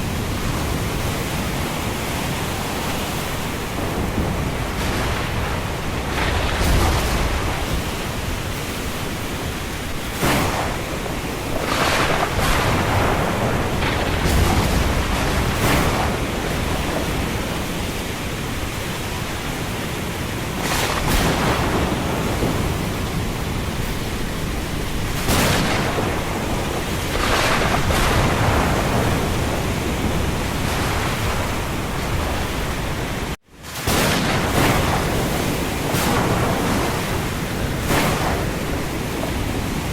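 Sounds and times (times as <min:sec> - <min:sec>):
rain and wind rushing: 0:00.0 - 0:39.9.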